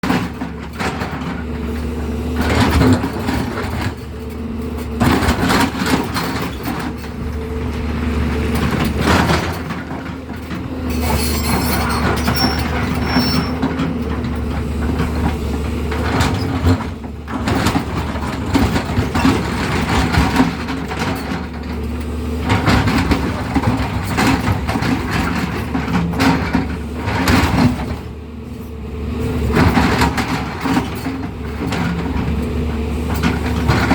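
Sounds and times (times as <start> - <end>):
bucket scraping and grinding road: 0.0 - 33.9
excavator diesel engine running: 0.0 - 33.9.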